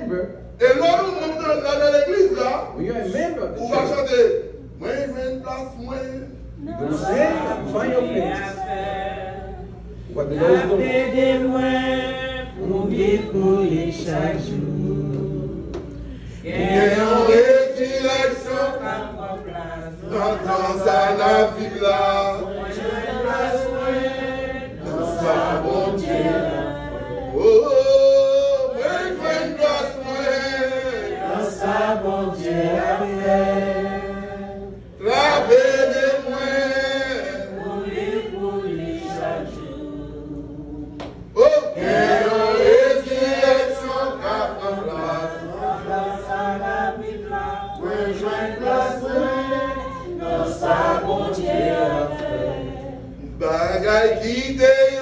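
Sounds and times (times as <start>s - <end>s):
congregation singing a hymn: 3.6s - 55.0s.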